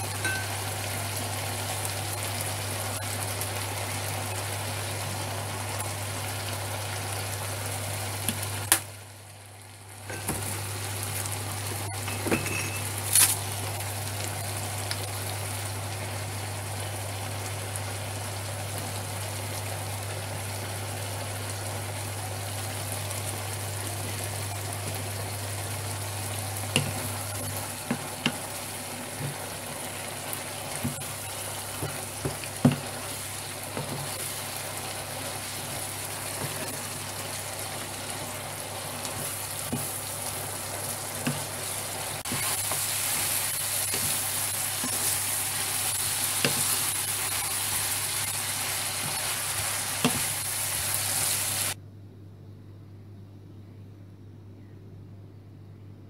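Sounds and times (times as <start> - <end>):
chicken and peas sizzling in a pan: 0.0 - 51.8.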